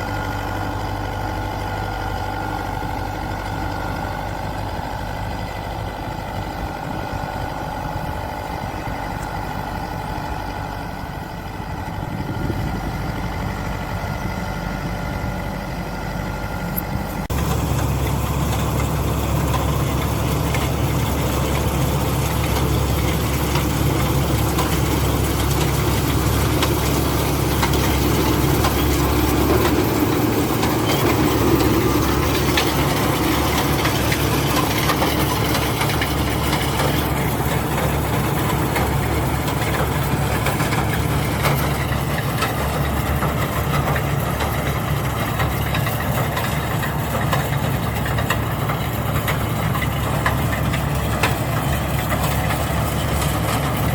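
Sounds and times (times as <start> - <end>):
combine harvester engine running: 0.0 - 53.9.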